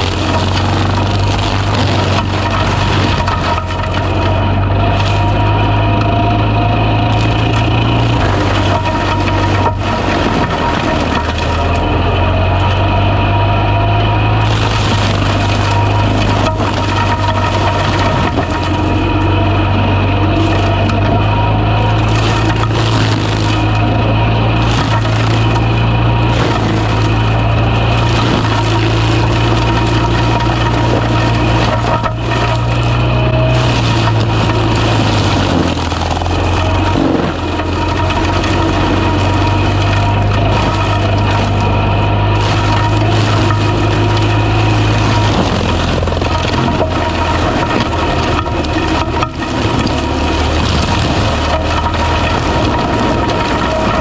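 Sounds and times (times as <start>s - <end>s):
loud machine drone: 0.0s - 54.0s
mulcher grinding brush and wood: 0.0s - 54.0s.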